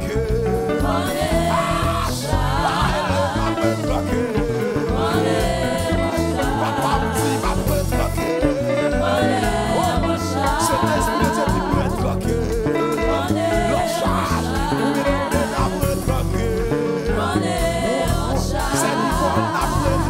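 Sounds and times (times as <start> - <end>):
band with bass and beat: 0.0 - 20.0
person singing with vibrato: 0.0 - 20.0.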